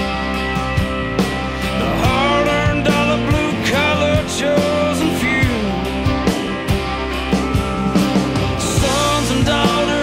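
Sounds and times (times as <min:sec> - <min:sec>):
country rock song with drumbeat: 0:00.0 - 0:10.0.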